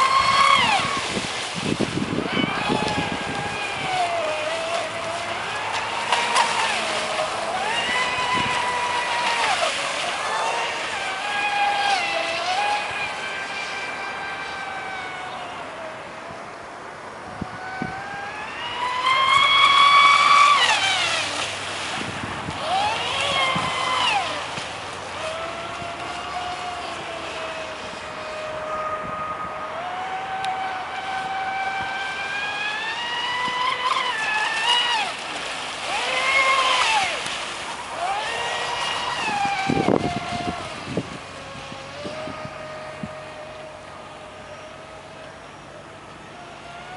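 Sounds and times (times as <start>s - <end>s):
electric motor whining: 0.0s - 16.6s, 17.2s - 46.9s
water and wind noise: 0.0s - 46.9s.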